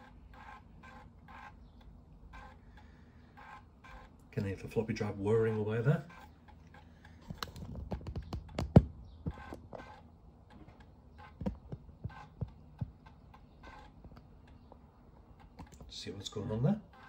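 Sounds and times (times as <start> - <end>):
floppy drive motor whir: 0.0 - 7.7, 9.3 - 14.7, 15.4 - 17.0.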